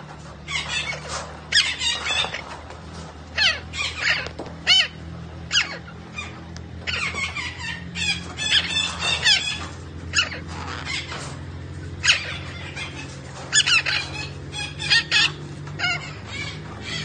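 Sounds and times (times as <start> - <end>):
parrot squawking: 0.4 - 2.6, 3.3 - 17.0.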